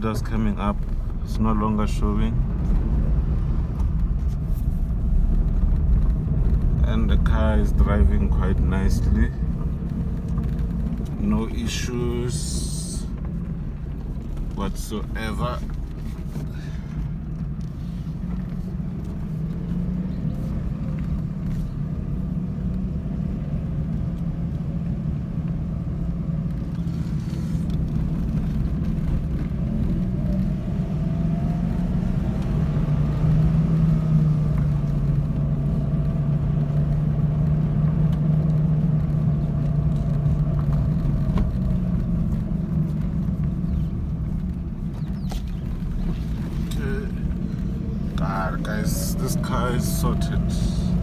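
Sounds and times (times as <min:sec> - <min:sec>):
car engine hum: 0:00.0 - 0:51.0
road noise: 0:00.0 - 0:51.0.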